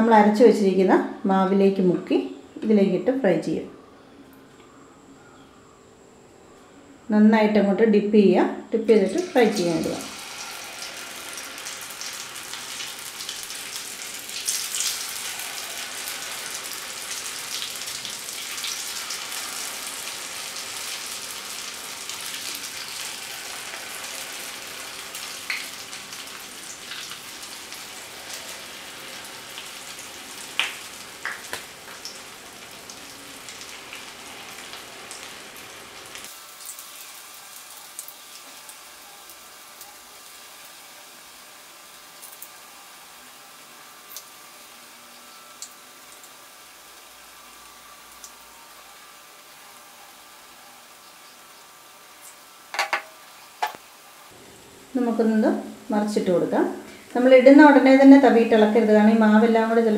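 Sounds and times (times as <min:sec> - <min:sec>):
batter deep-frying in hot oil: 0:08.9 - 0:59.9.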